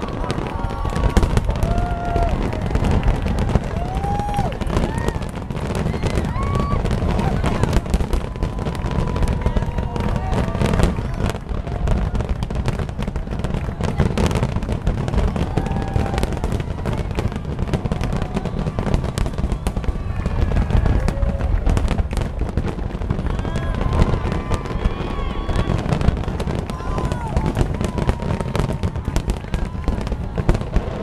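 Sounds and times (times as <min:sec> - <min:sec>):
fireworks bangs and crackling: 0:00.0 - 0:31.0
fireworks booming: 0:00.0 - 0:31.0.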